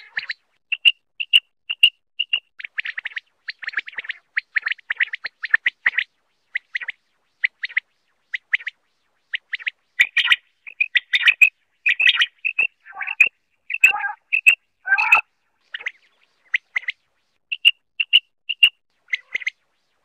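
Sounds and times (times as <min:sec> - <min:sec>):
quail calling: 0:00.0 - 0:06.1, 0:09.5 - 0:19.6.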